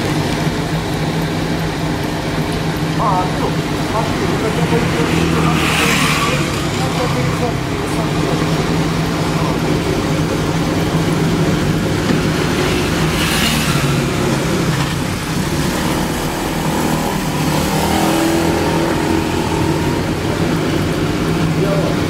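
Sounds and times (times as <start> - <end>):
mechanical hum and rumble: 0.0 - 22.0.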